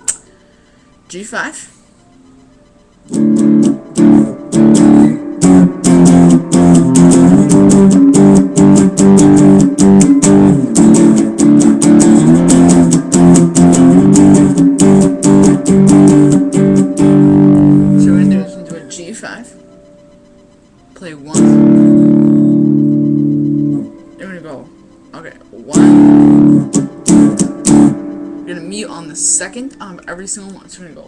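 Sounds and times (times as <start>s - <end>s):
guitar strumming power chords: 3.1s - 31.0s.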